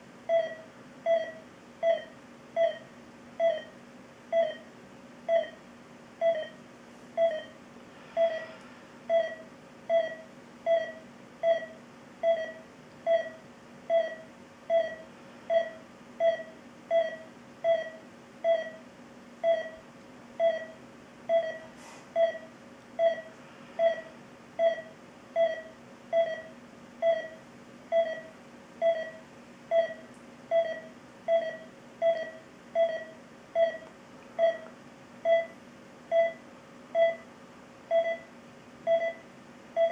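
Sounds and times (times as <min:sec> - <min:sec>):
faint steady hum: 0:00.0 - 0:39.9
patient monitor pulse beeps: 0:00.3 - 0:05.6, 0:06.2 - 0:06.6, 0:07.2 - 0:19.8, 0:20.4 - 0:37.3, 0:37.9 - 0:39.9.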